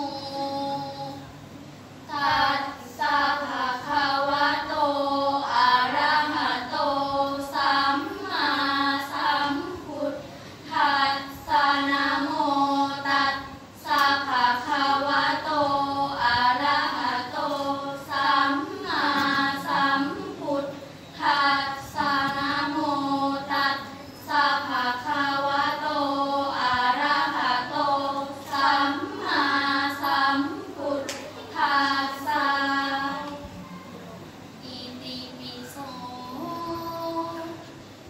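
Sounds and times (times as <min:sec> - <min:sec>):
girls chanting in unison: 0:00.0 - 0:01.4, 0:02.1 - 0:33.6.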